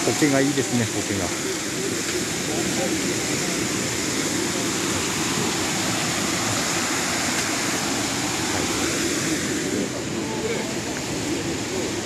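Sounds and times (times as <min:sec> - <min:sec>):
waterfall rushing into a pool: 0:00.0 - 0:12.0.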